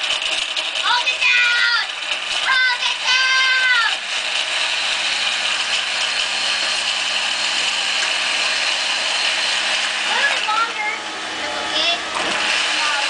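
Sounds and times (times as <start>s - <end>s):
blender running: 0.0s - 13.0s.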